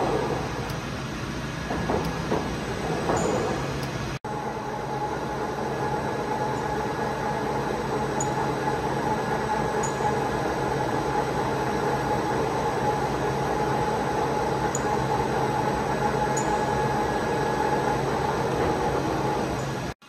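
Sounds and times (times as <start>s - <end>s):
lathe humming and whining: 0.0s - 20.0s.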